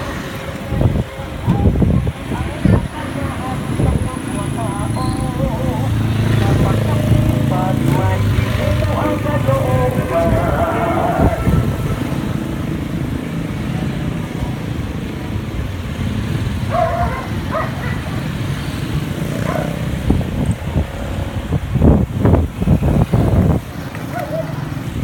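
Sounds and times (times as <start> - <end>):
loud uneven rumbling surges: 0.0 - 25.0
road traffic rumble: 0.0 - 25.0.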